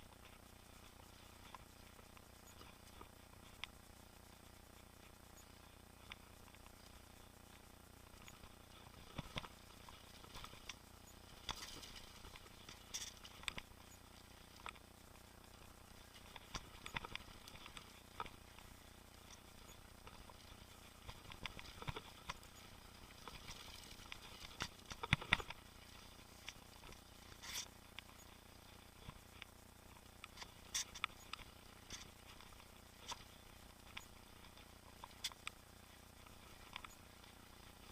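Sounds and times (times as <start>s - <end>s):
mountain bike rattling and clicking: 0.0s - 37.9s.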